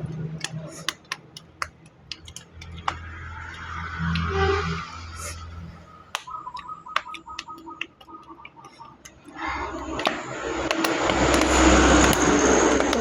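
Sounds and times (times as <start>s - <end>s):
small clicks and taps: 0.0s - 4.3s, 6.1s - 13.0s.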